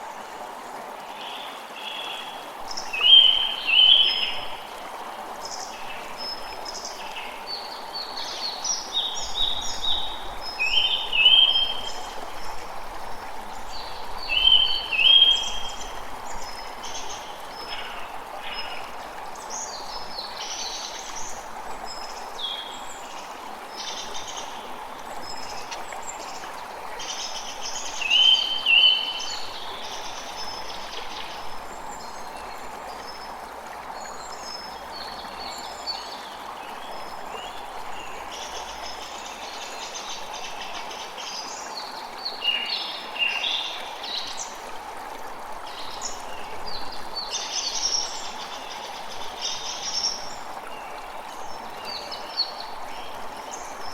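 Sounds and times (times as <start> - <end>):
flowing water: 0.0 - 53.9.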